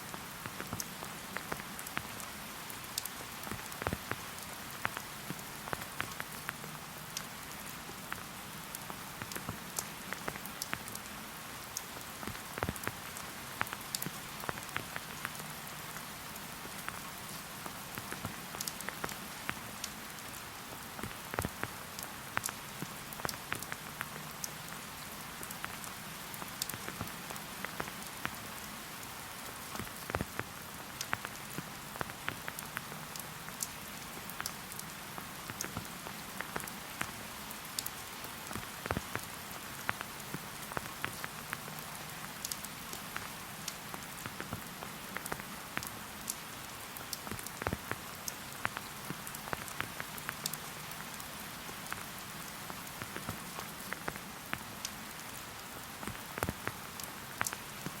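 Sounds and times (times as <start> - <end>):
raindrops pattering close by: 0.0 - 58.0
steady rain hiss: 0.0 - 58.0.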